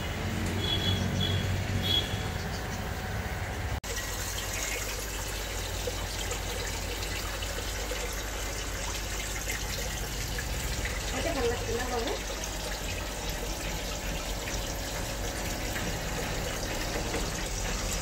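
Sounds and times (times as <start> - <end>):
aquarium water bubbling: 0.0 - 18.0.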